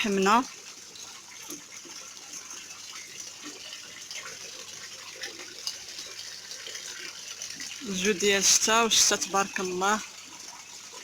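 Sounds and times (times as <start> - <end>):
running and splashing water: 0.0 - 11.0.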